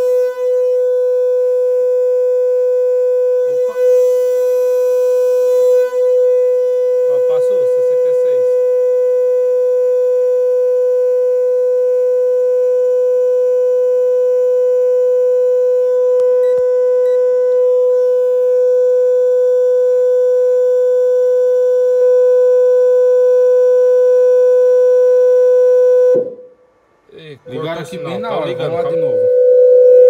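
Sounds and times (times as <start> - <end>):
test tone through speaker: 0.0 - 26.5, 27.6 - 30.0.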